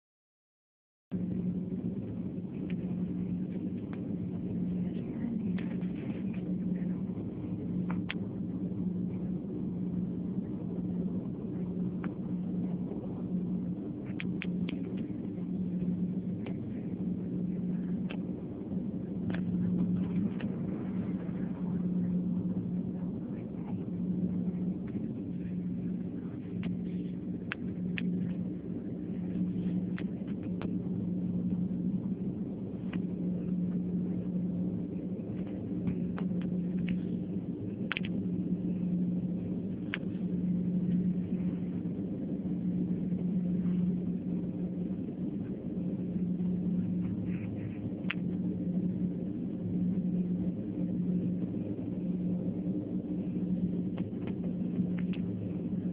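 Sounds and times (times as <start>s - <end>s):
airliner cabin hum: 1.1s - 55.9s.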